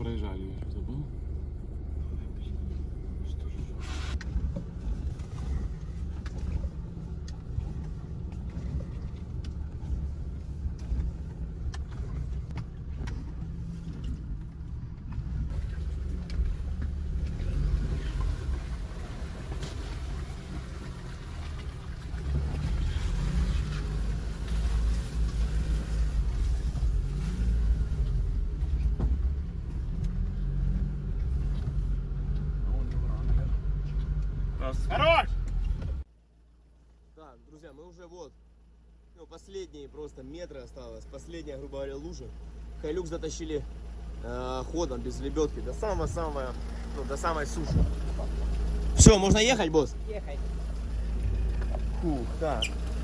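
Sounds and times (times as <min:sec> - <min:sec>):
towed vehicle rumbling: 0:00.0 - 0:53.0.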